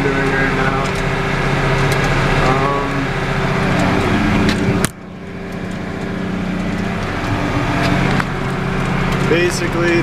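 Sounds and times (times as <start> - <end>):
tractor engine running under load: 0.0 - 10.0.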